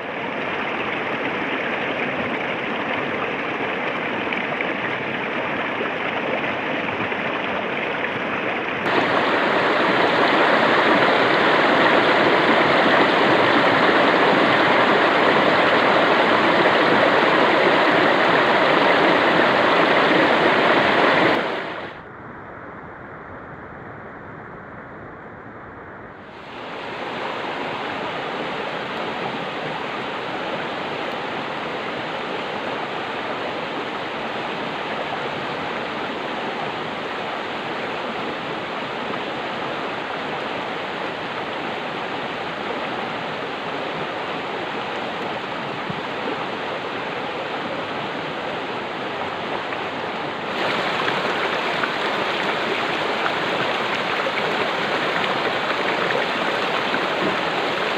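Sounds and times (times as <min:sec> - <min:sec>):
stream water rushing: 0:00.0 - 0:22.0, 0:26.3 - 0:57.9.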